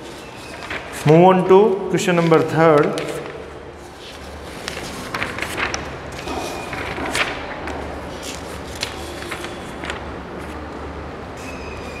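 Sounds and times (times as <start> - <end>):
paper rustling and crinkling: 0.0 - 1.2, 2.0 - 10.6.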